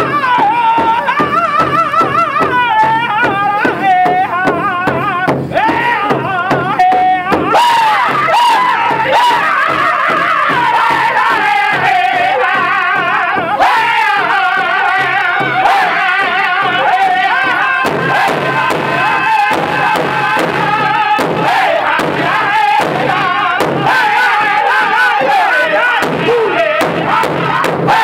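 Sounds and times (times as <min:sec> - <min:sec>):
group singing in high wavering voices: 0:00.0 - 0:28.0
large hide drum beating: 0:00.0 - 0:28.0.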